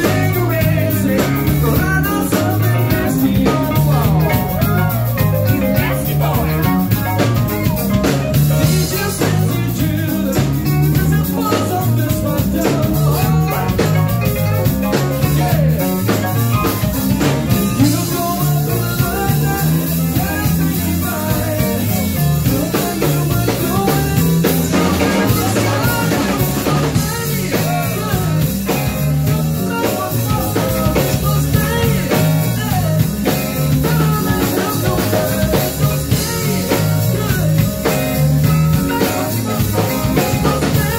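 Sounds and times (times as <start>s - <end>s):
drum kit: 0.0s - 40.9s
electric guitar: 0.0s - 40.9s
keyboard playing: 0.0s - 40.9s
lead singer singing: 0.0s - 40.9s.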